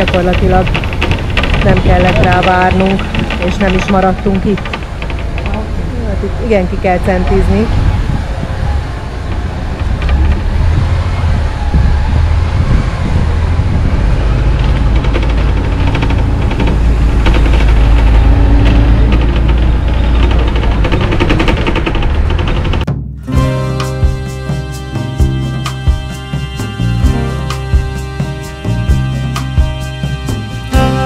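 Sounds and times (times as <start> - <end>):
rattling: 0.0 - 8.1, 14.0 - 31.0
bus engine rumble: 0.0 - 31.0
road noise: 0.0 - 31.0.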